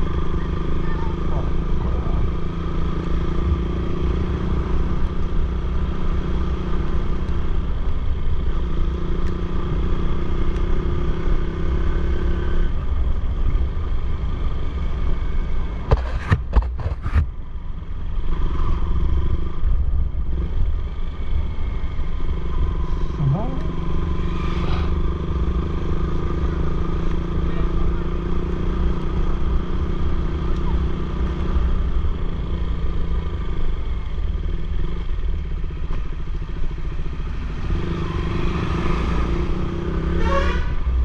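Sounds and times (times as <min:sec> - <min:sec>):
motorcycle engine running: 0:00.0 - 0:40.7.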